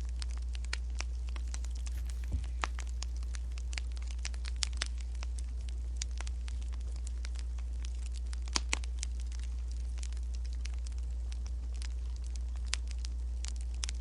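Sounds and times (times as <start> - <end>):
steady low hum: 0.0 - 14.0
wood fire crackling: 0.0 - 14.0.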